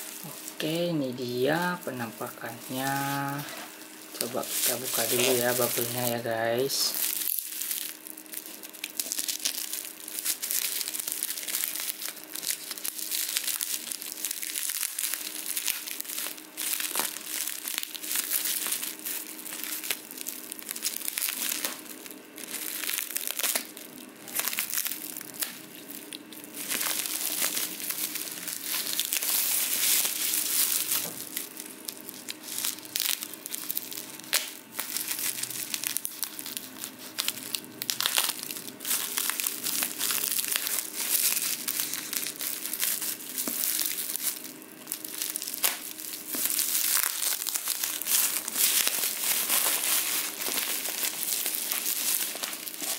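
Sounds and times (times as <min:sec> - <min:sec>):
bubble wrap crinkling: 0:00.0 - 0:52.9.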